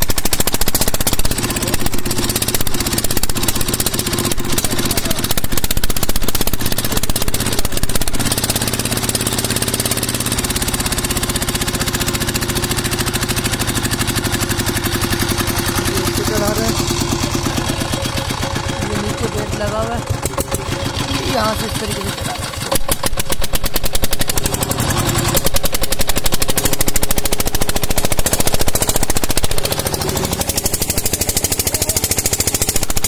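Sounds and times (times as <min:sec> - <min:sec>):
diesel engine chugging: 0:00.0 - 0:33.0.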